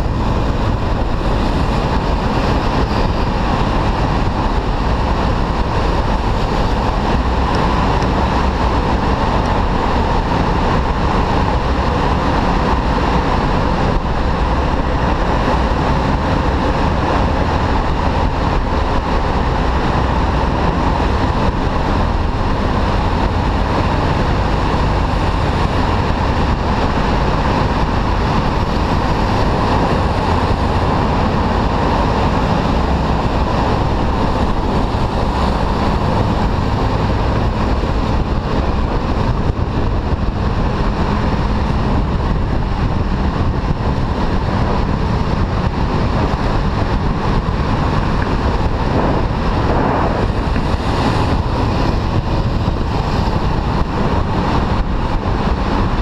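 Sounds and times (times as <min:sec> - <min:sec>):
car traffic: 0:00.0 - 0:56.0
wind and road noise: 0:00.0 - 0:56.0.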